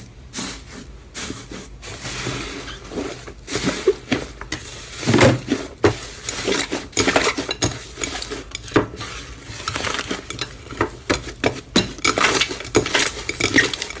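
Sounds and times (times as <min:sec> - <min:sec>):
slime being stirred: 0:00.3 - 0:14.0
utensil scraping a bowl: 0:01.9 - 0:14.0.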